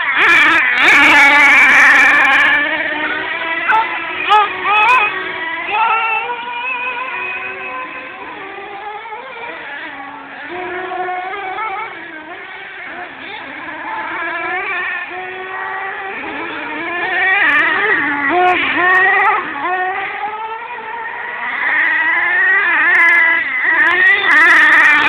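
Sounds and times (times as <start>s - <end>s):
radio-controlled car motors: 0.0s - 25.0s.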